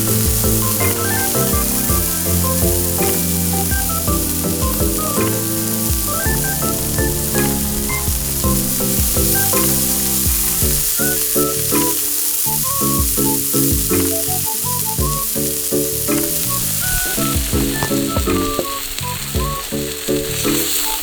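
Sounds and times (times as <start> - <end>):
food sizzling in a frying pan: 0.0 - 21.0
instrumental background music: 0.0 - 21.0.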